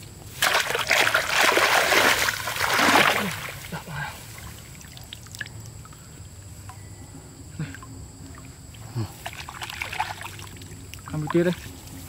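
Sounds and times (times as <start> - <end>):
water sloshing and trickling: 0.0 - 12.0.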